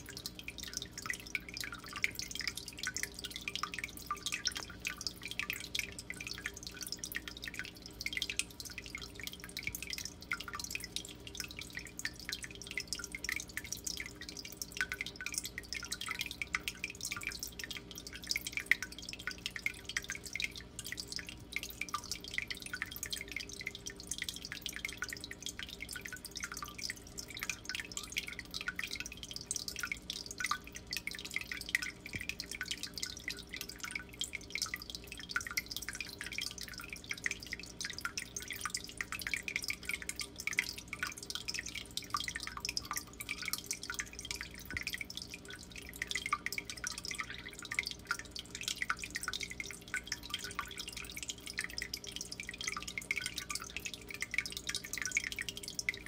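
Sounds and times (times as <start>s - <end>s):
low steady hum: 0.0s - 56.0s
water dripping: 0.0s - 56.0s.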